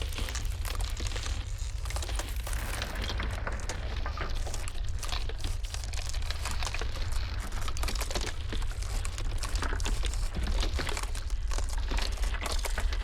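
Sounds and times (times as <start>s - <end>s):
low rumble of blizzard wind: 0.0s - 13.0s.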